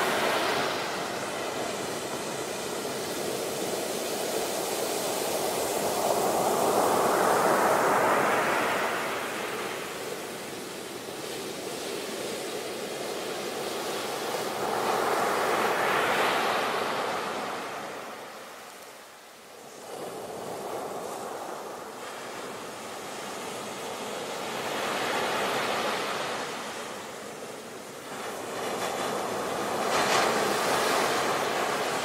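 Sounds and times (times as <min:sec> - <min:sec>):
ocean waves breaking on beach: 0:00.0 - 0:32.0.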